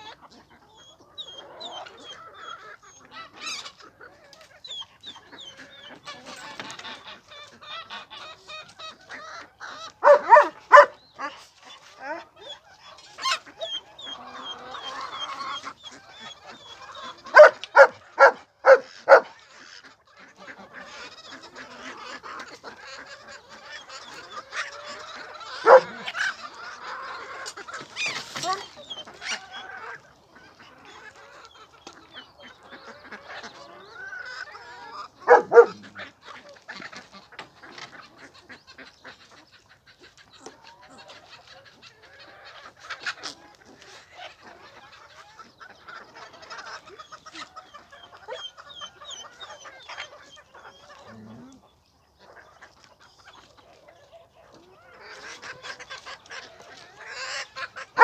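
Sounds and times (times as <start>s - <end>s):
poultry clucking and squawking: 0.0s - 58.0s.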